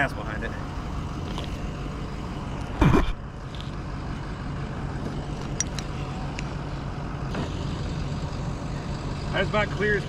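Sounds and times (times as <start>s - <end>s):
engine running at low speed: 0.0s - 10.0s.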